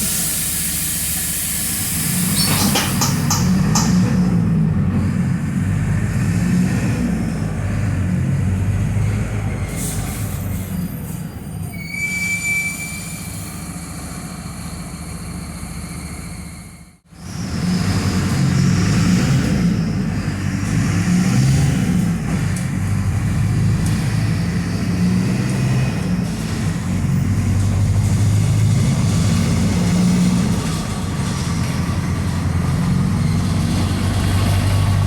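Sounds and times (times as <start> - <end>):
bus diesel engine running: 0.0 - 11.8, 13.2 - 35.0.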